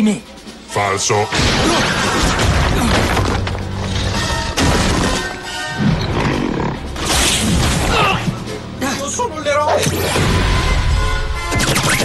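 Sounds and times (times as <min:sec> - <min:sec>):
dramatic action music: 0:00.0 - 0:12.0.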